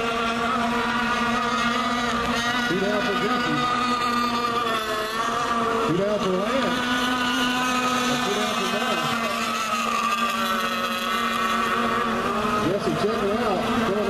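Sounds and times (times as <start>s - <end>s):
model boat engines whining: 0.0s - 14.0s.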